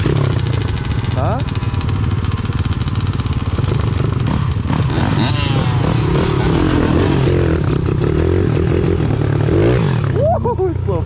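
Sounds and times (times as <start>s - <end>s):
dirt bike engine under throttle: 0.0s - 11.0s.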